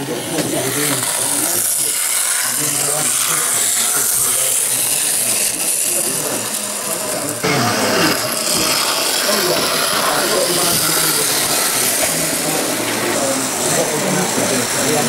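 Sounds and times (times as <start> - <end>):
model train motor whirring: 0.0 - 15.0
murmur of people talking: 0.0 - 15.0.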